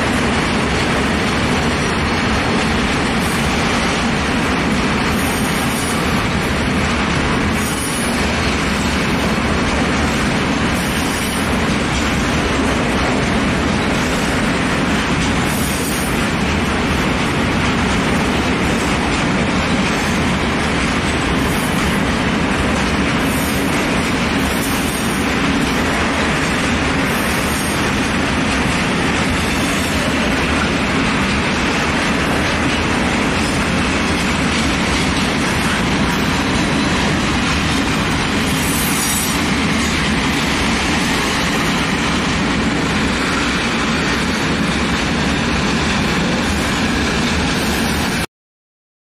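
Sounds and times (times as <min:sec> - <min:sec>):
freight train wheels rumbling: 0:00.0 - 0:48.3.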